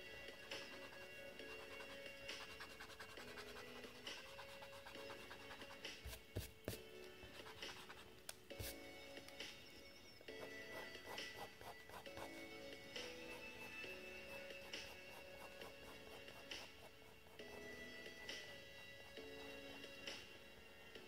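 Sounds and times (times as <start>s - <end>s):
soft background music: 0.0s - 21.0s
pencil scratching on paper: 0.3s - 8.8s, 10.4s - 20.0s.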